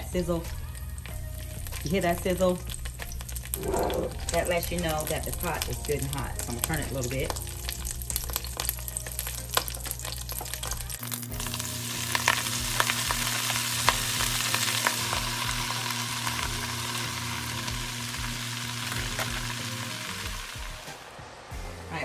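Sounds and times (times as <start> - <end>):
grease crackling and popping: 0.0 - 20.9
greens sizzling in a frying pan: 0.0 - 21.0.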